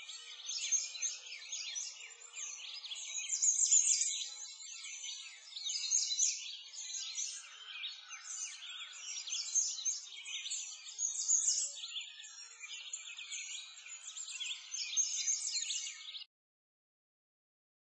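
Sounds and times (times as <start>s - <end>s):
small birds chirping: 0.0s - 16.3s.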